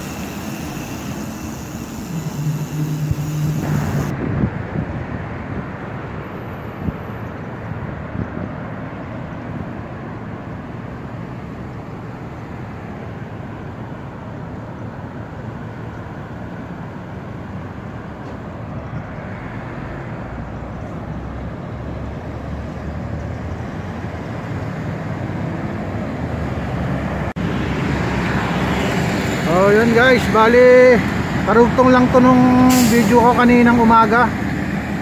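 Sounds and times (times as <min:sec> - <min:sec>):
road traffic hum: 0:00.0 - 0:35.0.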